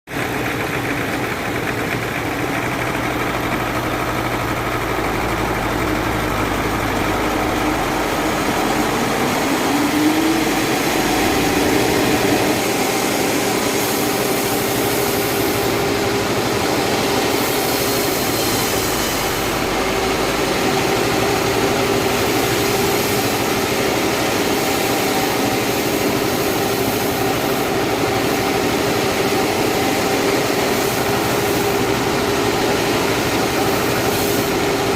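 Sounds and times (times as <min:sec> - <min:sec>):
sawmill machinery humming: 0:00.1 - 0:34.9
hiss: 0:02.2 - 0:34.9.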